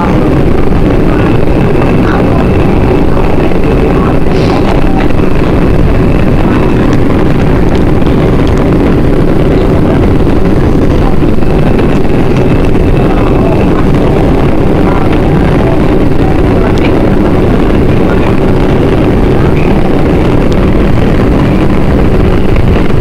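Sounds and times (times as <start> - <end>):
faint thin whine: 0.0 - 23.0
subway train wheels rumbling on rail: 0.0 - 23.0.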